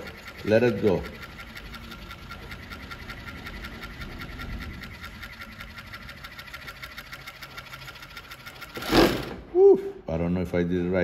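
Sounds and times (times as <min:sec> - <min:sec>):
sewing machine stitching: 0:00.0 - 0:09.4.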